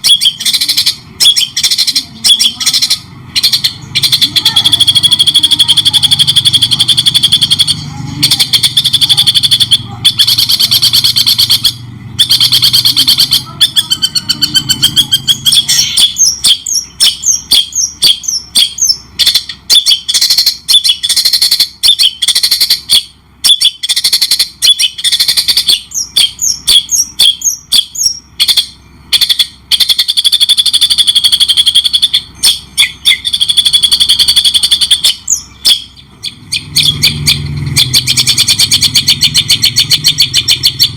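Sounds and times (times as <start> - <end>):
bird singing buzzy trill: 0.0 - 40.9
bird whistled chirping notes: 0.0 - 40.9.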